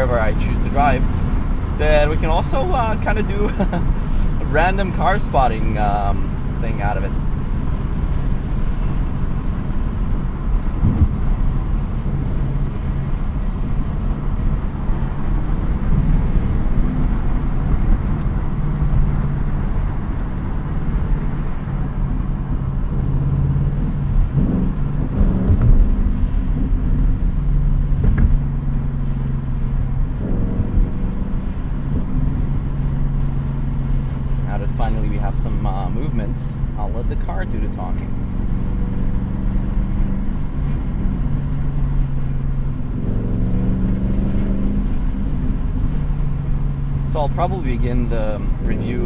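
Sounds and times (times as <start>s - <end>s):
car engine running: 0.0s - 49.0s
road noise: 0.0s - 49.0s.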